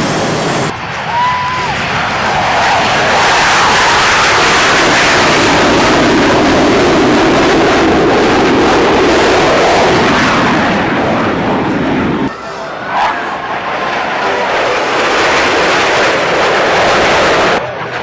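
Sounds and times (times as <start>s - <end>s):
jet aircraft roar: 0.0s - 18.0s.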